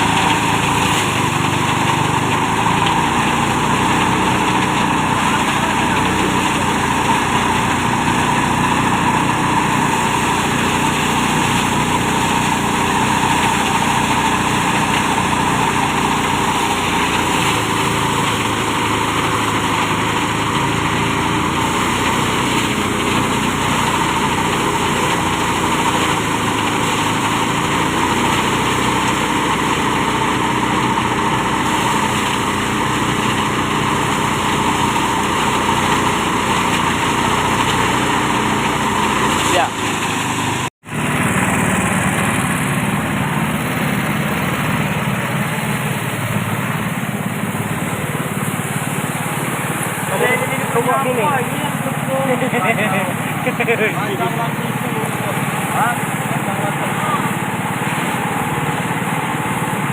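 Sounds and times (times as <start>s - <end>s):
rice thresher machine drone: 0.0s - 59.9s.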